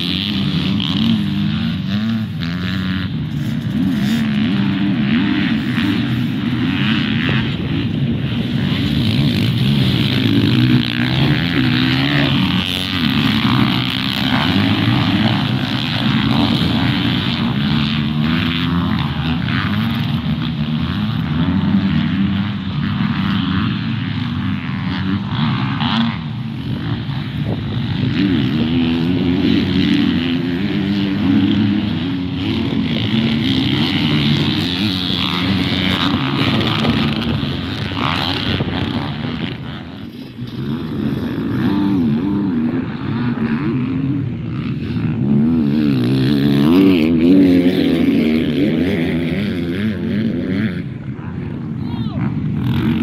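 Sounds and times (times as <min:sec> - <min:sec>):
dirt bikes racing past: 0:00.0 - 0:53.0.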